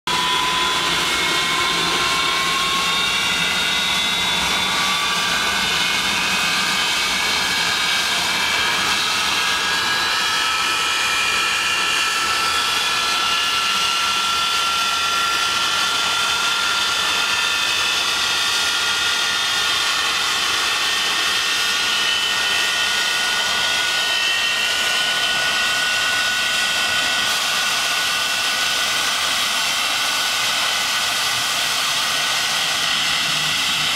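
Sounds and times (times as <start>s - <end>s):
jet engines roaring with whine: 0.1s - 33.9s.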